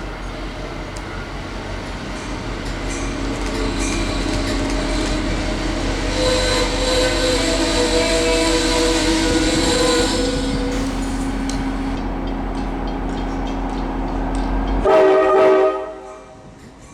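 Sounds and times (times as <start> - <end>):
steady tones: 0.0 - 14.9
passenger train accelerating past: 0.0 - 16.9.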